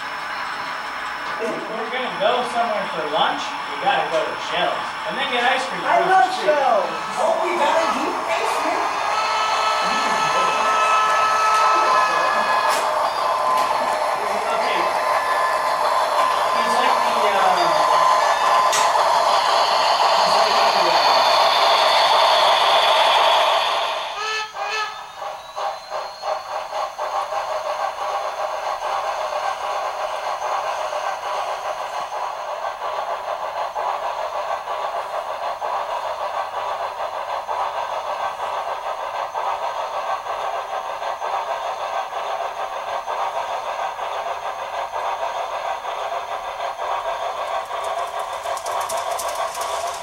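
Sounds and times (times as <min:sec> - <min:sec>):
steam locomotive exhaust beats: 0:00.0 - 0:50.0.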